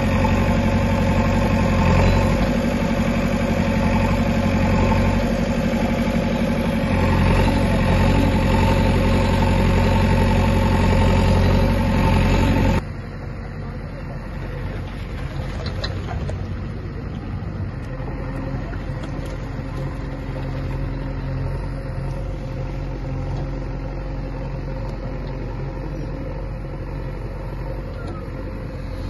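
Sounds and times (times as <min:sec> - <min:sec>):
backhoe digging soil: 0:00.0 - 0:12.8, 0:17.7 - 0:29.0
diesel engine running under load: 0:00.0 - 0:29.0.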